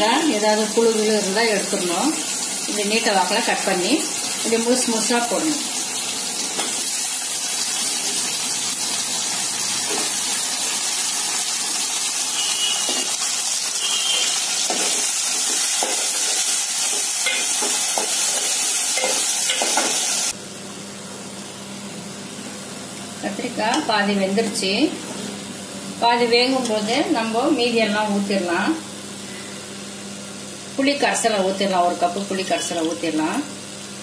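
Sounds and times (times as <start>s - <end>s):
vegetables sizzling in hot oil: 0.0s - 20.6s, 21.3s - 34.0s.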